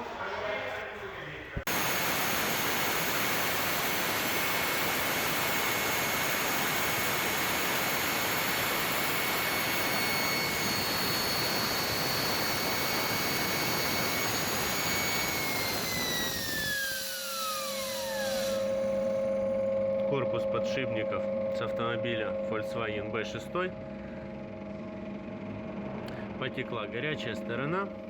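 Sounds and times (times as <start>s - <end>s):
turbocharger whining: 1.7s - 28.0s.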